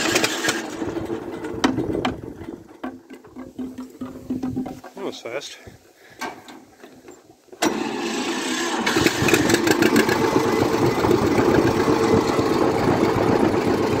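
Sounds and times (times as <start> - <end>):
tractor engine starting and running: 0.0 - 4.9, 6.2 - 14.0.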